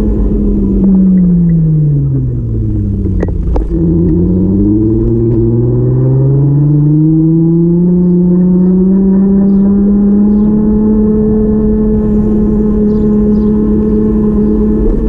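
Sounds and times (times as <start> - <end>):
vehicle engine: 0.0 - 15.0.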